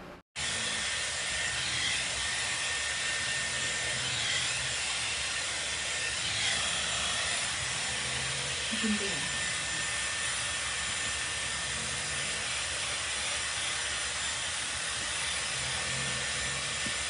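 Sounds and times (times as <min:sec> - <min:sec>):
hot-air styler blowing: 0:00.4 - 0:17.0.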